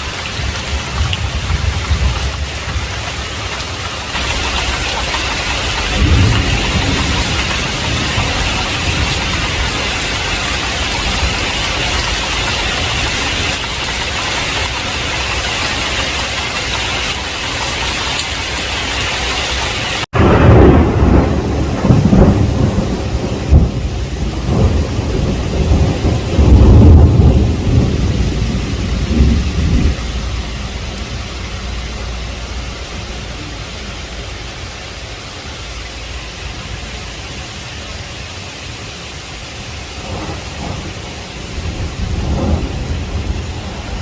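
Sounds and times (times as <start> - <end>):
rolling thunder rumble: 0.0 - 17.6, 20.2 - 34.7, 39.5 - 44.0
heavy rain hissing: 0.0 - 44.0.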